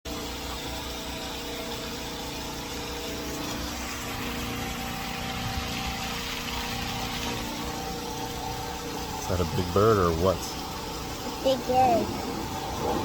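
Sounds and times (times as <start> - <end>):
mechanical hum with low rumble: 0.1 - 13.0.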